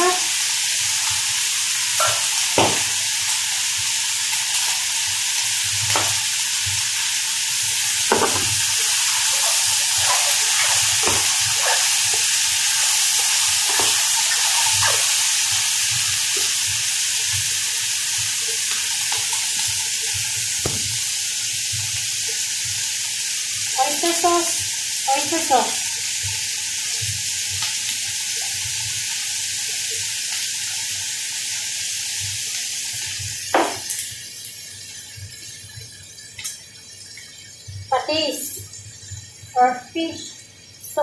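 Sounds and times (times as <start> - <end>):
vegetables sizzling in a frying pan: 0.0 - 41.0.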